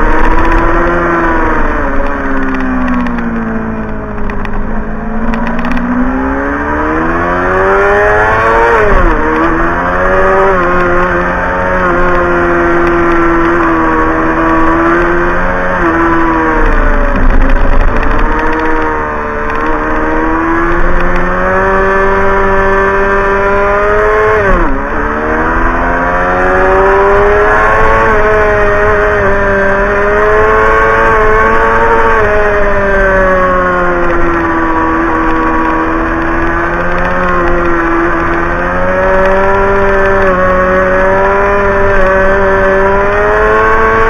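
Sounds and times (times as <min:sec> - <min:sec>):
wind rumbling on microphone: 0:00.0 - 0:42.8
motorcycle engine revving: 0:00.0 - 0:44.0.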